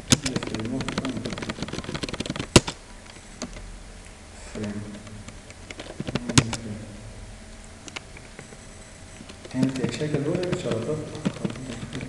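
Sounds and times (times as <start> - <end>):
computer mouse clicking: 0.0 - 3.6, 4.5 - 6.7, 7.5 - 12.0.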